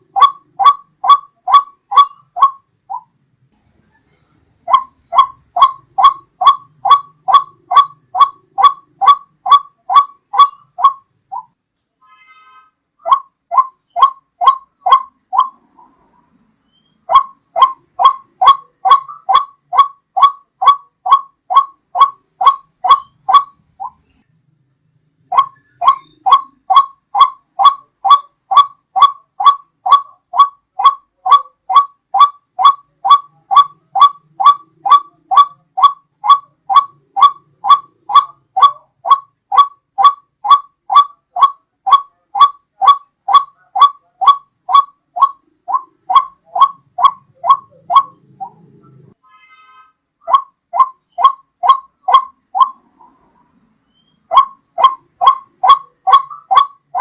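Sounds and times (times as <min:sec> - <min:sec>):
waterhen calls: 0:00.0 - 0:03.1, 0:04.6 - 0:11.6, 0:13.0 - 0:16.1, 0:16.7 - 0:24.2, 0:25.2 - 0:49.2, 0:50.2 - 0:57.0.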